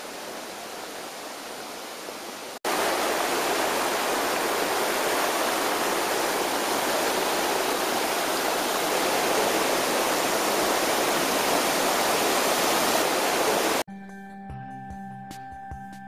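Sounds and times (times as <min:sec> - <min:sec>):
stream water rushing over cascades: 0:00.0 - 0:13.8.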